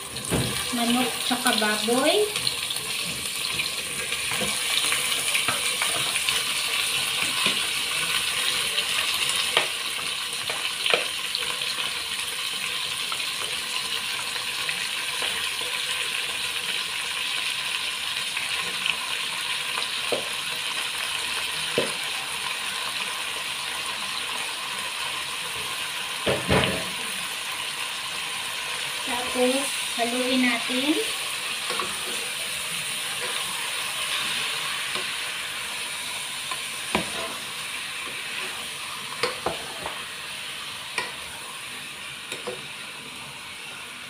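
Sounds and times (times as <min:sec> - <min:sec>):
meat sizzling in hot oil: 0:00.0 - 0:44.0.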